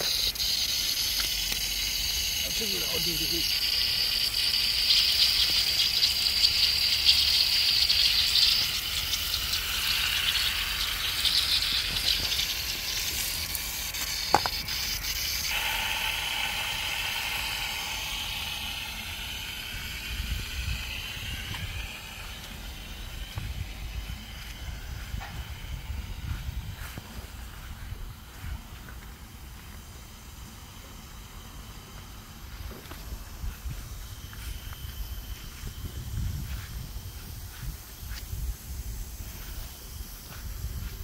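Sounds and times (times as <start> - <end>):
irrigation water spraying: 0.0 - 41.0.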